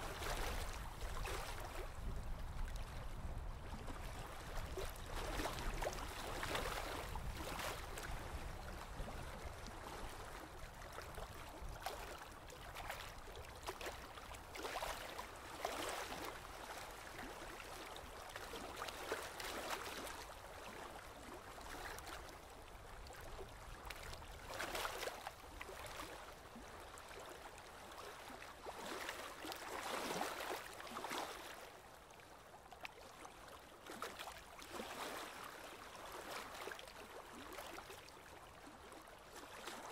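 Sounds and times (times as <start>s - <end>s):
river water lapping against a pier: 0.0s - 39.9s.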